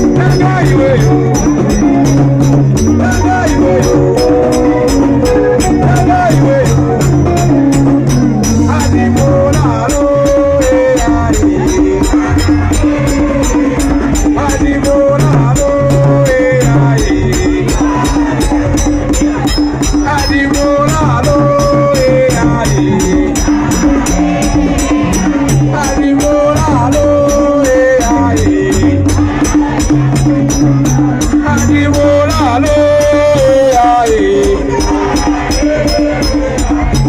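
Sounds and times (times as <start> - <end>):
live band music: 0.0 - 37.0.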